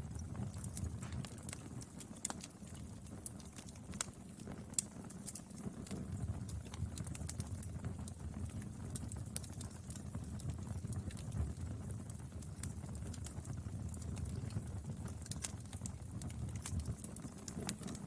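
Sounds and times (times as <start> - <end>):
firewood crackling and popping: 0.0 - 18.0
low rumble of flames: 0.0 - 18.0.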